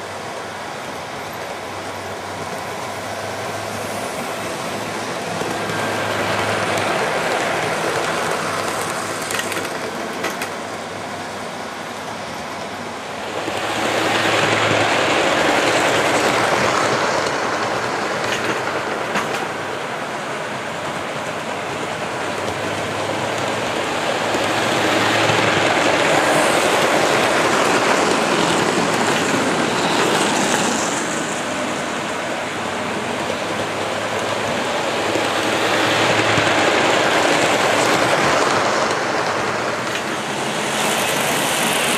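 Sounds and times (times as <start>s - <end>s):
model trains rattling on rails: 0.0s - 41.9s.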